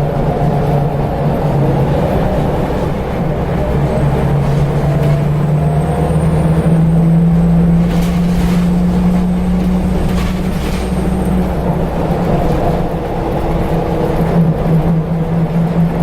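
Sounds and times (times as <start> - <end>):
bus engine drone: 0.0 - 16.0
transmission whine: 0.0 - 16.0.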